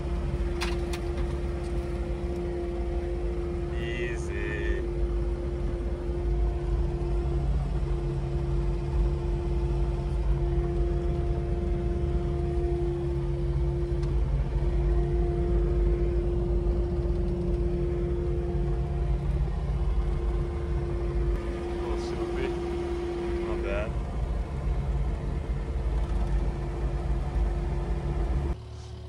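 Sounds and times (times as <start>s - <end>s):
excavator diesel engine rumbling: 0.0s - 29.0s
steady engine whine: 0.0s - 29.0s.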